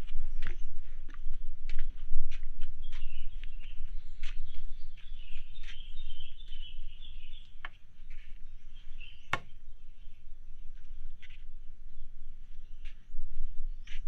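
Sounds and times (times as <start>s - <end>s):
birds chirping: 0.3s - 1.1s, 2.8s - 14.0s.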